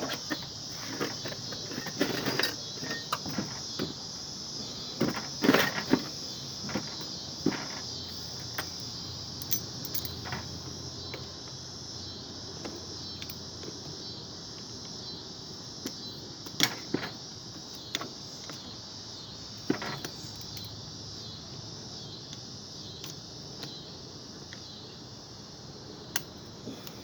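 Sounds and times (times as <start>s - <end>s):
insect chorus trilling: 0.0s - 27.0s.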